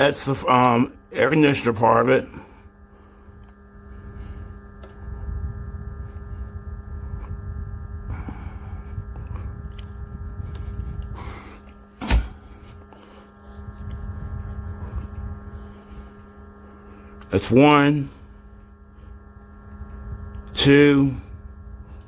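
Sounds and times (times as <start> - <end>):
fan humming: 0.0 - 22.0
rumble of moving air: 0.0 - 22.0.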